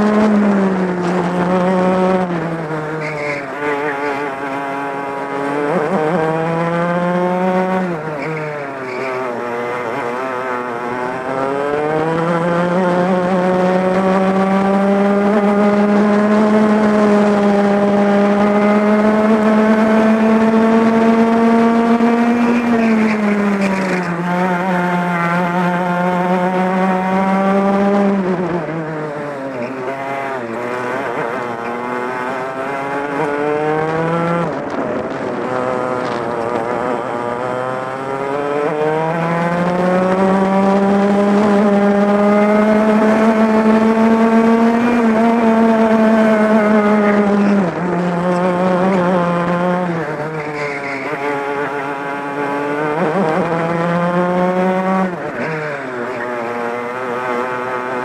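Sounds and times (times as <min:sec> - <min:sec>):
kart engine at full throttle: 0:00.0 - 0:58.0.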